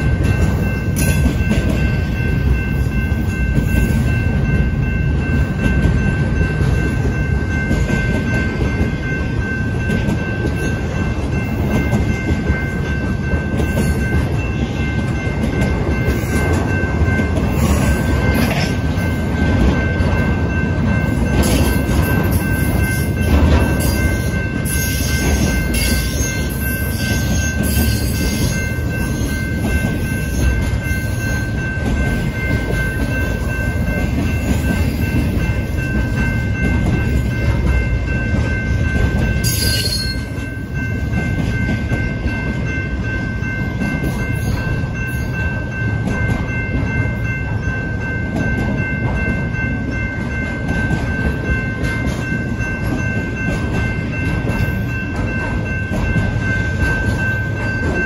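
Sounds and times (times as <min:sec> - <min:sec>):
steel train wheels rumbling on rail: 0:00.0 - 0:58.0.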